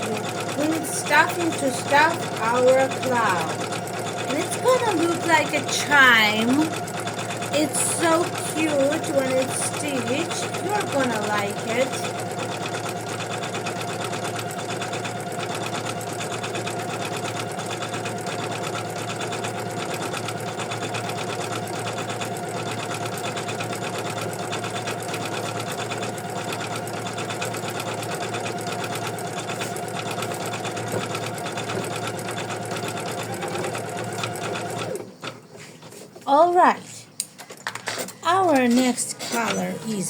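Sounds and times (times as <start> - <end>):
embroidery machine stitching: 0.0 - 36.6, 37.4 - 40.0.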